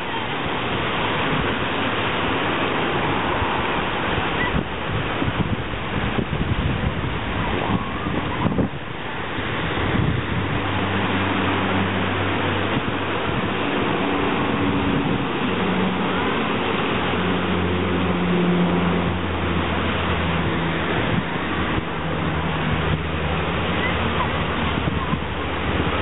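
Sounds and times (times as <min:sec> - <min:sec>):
low engine drone: 0:00.0 - 0:26.0
steady rushing noise: 0:00.0 - 0:26.0.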